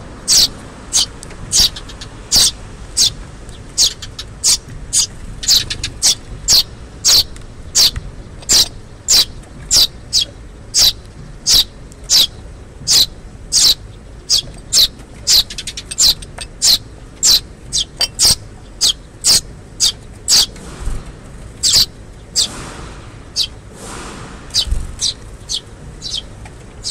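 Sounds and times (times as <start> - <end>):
high-pitched chick chirps: 0.3 - 3.2, 3.8 - 20.5, 24.5 - 26.9.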